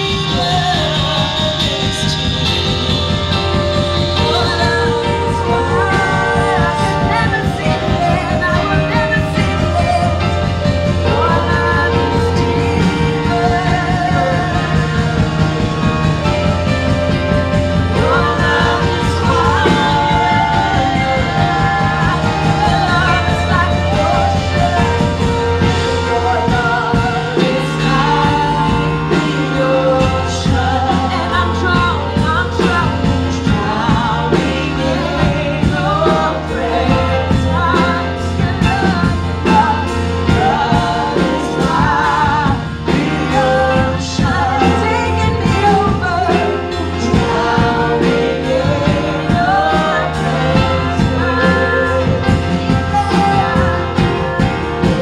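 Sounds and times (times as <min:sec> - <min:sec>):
band with steady beat: 0:00.0 - 0:55.0
worship music with singing: 0:00.0 - 0:55.0.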